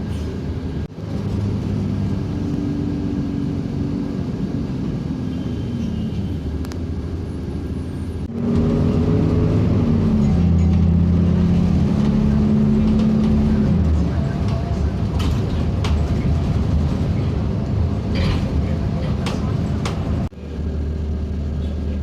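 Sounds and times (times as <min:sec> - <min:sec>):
traffic engines humming: 0:00.0 - 0:22.0.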